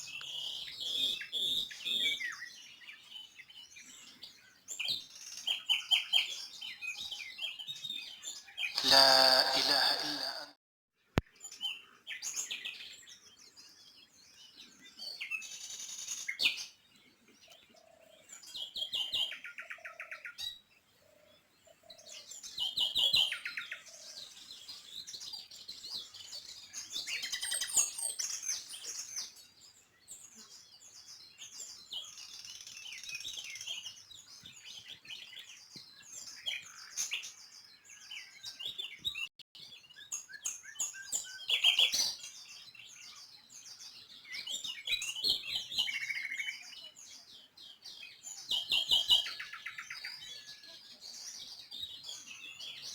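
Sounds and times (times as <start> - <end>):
songbirds chirping and twittering: 0.0 - 10.4, 11.0 - 52.9.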